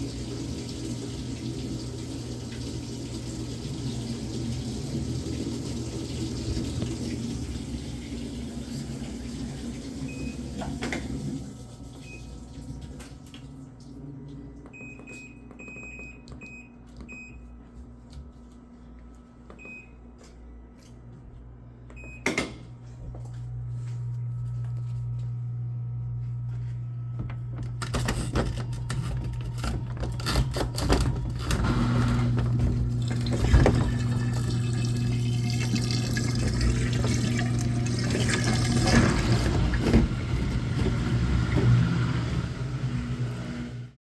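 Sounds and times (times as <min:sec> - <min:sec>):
low motor hum: 0:04.0 - 0:44.0.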